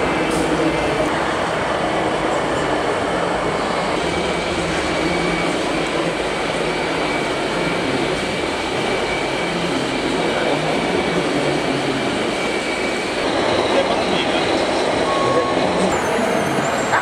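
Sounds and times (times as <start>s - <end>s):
busy hall din: 0.0s - 17.0s.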